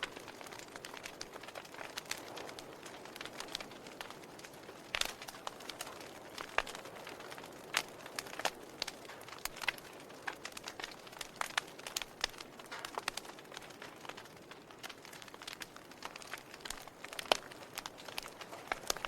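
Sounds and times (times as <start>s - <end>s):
firewood crackling and popping: 0.0s - 19.0s
soft steady hiss: 0.0s - 19.0s.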